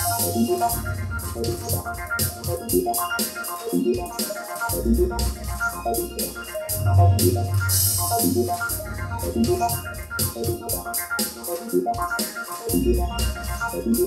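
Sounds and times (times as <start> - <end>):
organ-like keyboard music: 0.0 - 14.0
steady beat and bass: 0.0 - 14.0.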